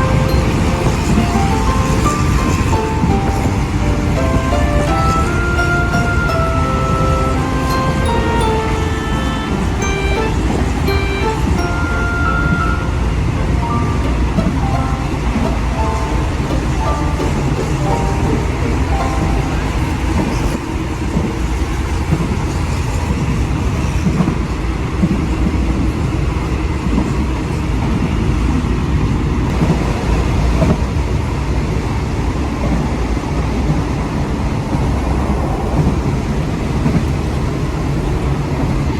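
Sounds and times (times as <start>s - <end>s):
passenger train rumbling: 0.0s - 38.9s.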